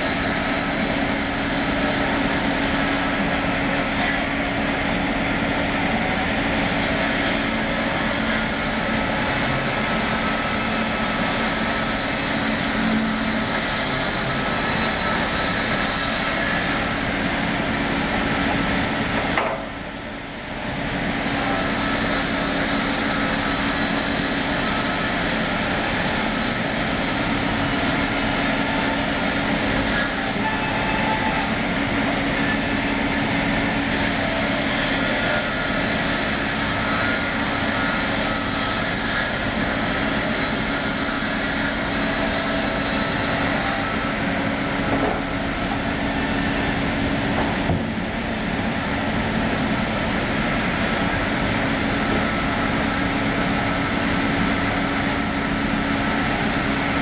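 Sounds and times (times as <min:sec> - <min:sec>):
circular saw cutting wood: 0:00.0 - 0:19.8, 0:20.6 - 0:57.0.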